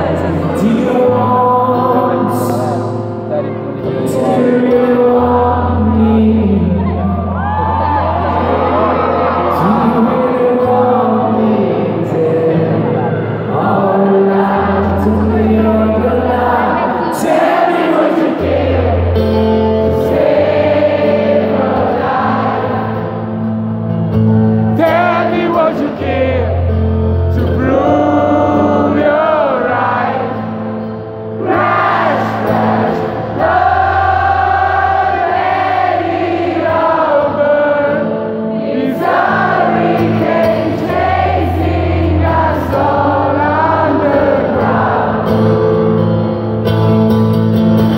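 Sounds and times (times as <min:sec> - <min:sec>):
many voices singing: 0:00.0 - 0:03.0, 0:03.8 - 0:46.6.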